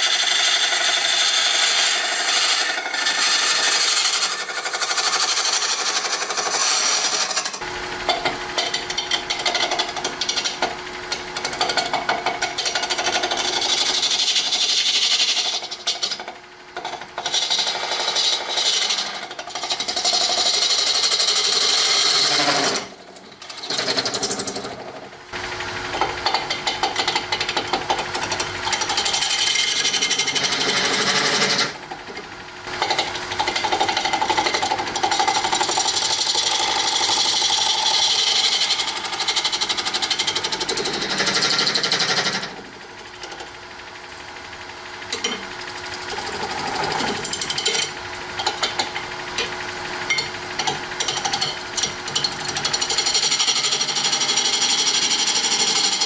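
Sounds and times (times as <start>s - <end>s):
lathe tool scraping: 0.0s - 43.6s, 44.8s - 56.0s.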